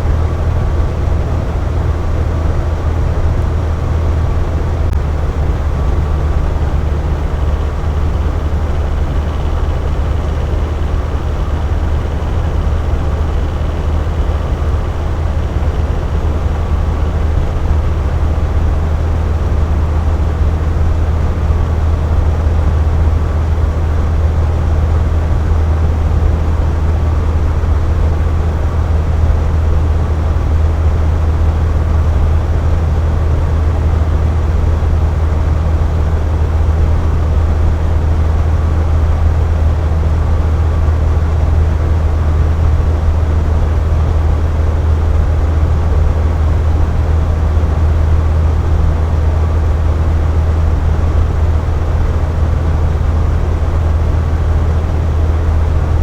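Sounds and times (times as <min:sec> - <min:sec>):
box fan humming: 0:00.0 - 0:56.0.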